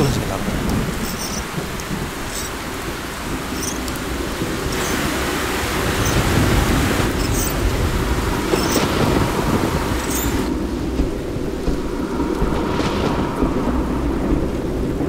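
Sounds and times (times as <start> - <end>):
heavy rain hiss: 0.0 - 15.0
low rumbling thunder: 0.0 - 15.0.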